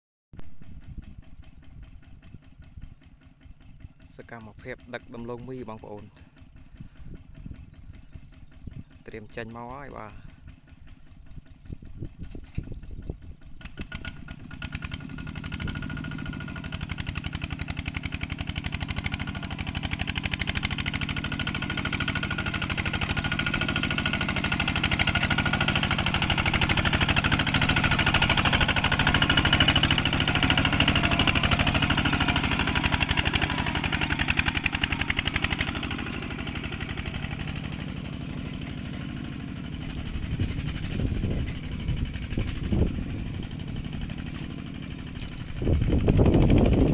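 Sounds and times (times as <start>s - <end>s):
walking tractor diesel engine: 0.4s - 46.9s.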